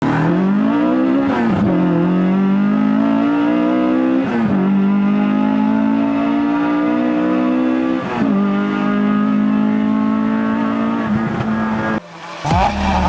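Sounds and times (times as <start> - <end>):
engine revving through upshifts: 0.0 - 13.0.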